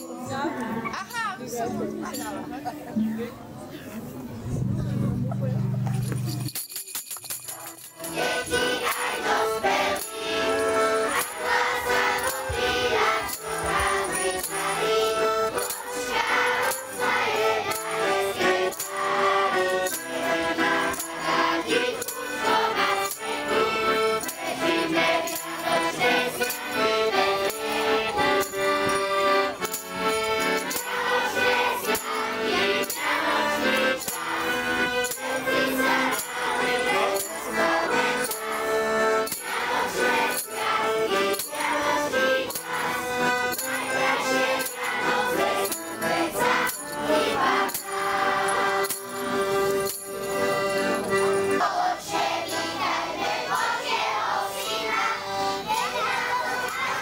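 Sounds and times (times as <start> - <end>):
instrumental accompaniment: 0.0 - 57.0
children singing: 8.0 - 57.0.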